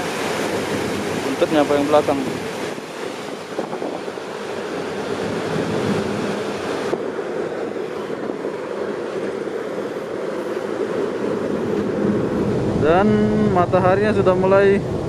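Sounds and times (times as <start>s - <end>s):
churning water rushing: 0.0s - 15.0s
wind across microphone: 0.0s - 15.0s.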